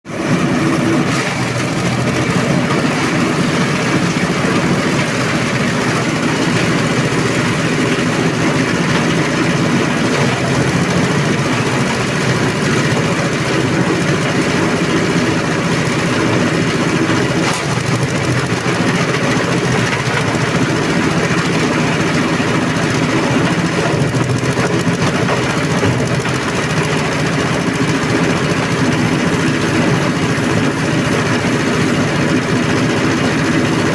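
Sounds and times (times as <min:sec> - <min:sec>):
garden shredder running: 0:00.1 - 0:33.9.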